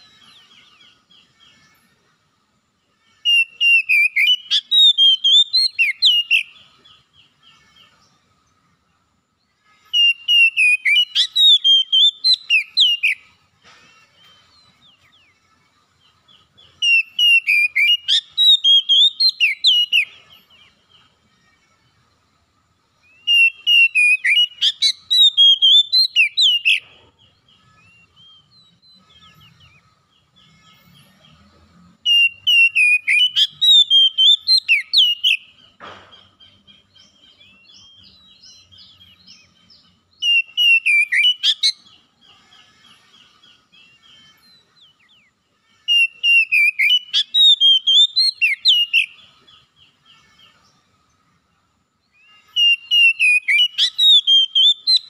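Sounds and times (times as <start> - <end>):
bird whistling song: 3.2 - 8.1, 9.9 - 13.4, 14.2 - 21.2, 23.0 - 50.7, 52.1 - 55.0.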